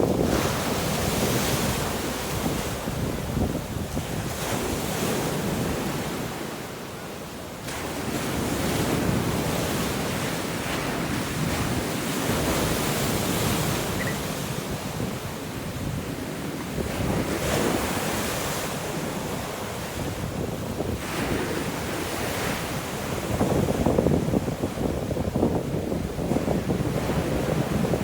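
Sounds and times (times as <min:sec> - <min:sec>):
wind gusting on microphone: 0:00.0 - 0:06.8, 0:07.6 - 0:28.0
heavy surf: 0:00.0 - 0:28.0.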